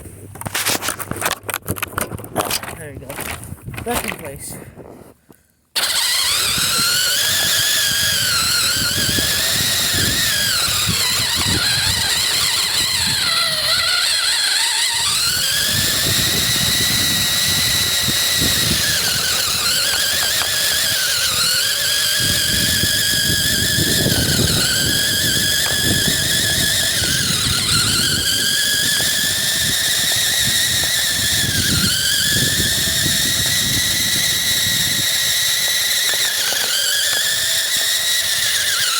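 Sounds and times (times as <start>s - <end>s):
rc car motor whine: 5.7s - 38.9s
tyres rumbling through snow: 5.8s - 38.9s.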